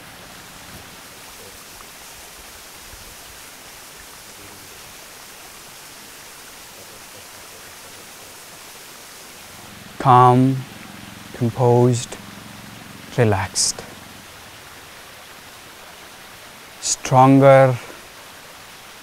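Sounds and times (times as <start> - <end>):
waterfall and stream rushing: 0.0 - 19.0.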